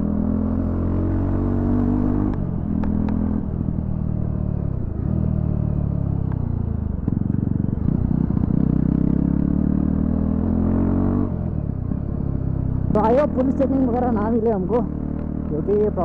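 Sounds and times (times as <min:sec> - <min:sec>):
motorcycle engine with open exhaust: 0:00.0 - 0:16.0.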